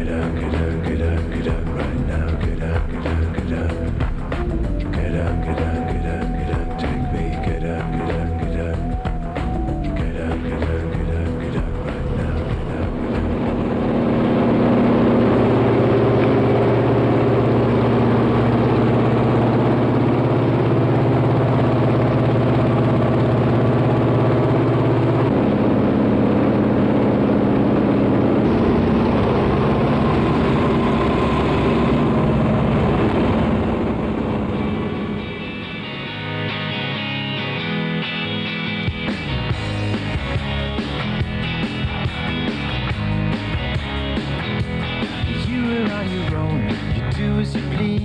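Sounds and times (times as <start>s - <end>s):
propeller aircraft engines droning: 0.0s - 36.8s, 38.0s - 47.5s.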